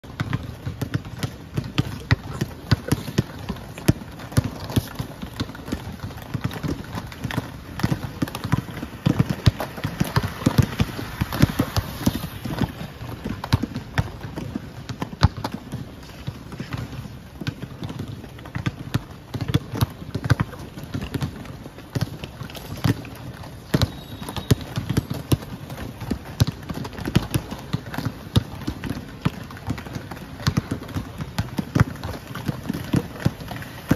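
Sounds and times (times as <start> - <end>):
basketballs bouncing on stone: 0.1 - 33.9
roller skate wheels rolling: 0.4 - 17.2, 20.5 - 33.9.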